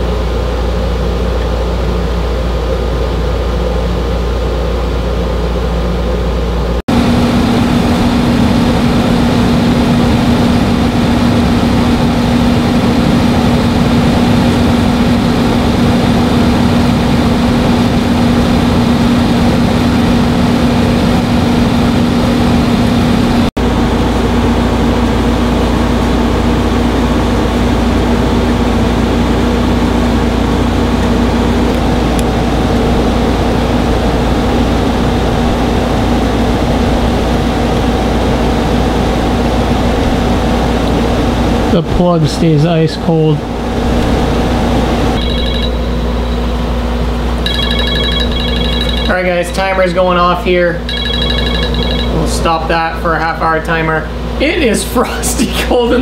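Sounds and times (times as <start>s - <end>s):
air conditioner fan rushing: 0.0s - 56.0s
strong steady hum tone: 0.0s - 56.0s.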